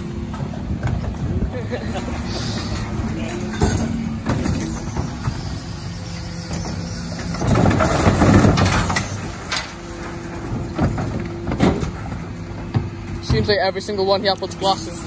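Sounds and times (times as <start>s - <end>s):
hydraulics humming: 0.0s - 15.0s
truck engine: 0.0s - 15.0s
bins clunking: 0.2s - 5.5s, 6.5s - 13.7s.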